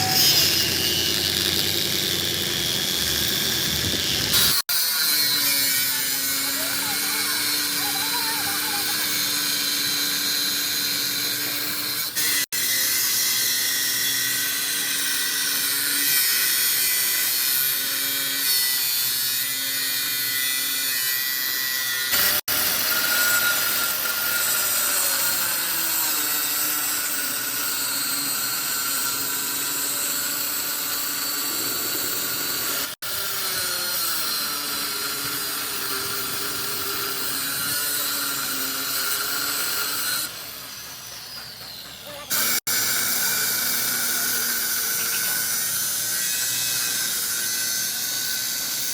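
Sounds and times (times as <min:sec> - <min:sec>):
power tool grinding metal: 0:00.0 - 0:48.9.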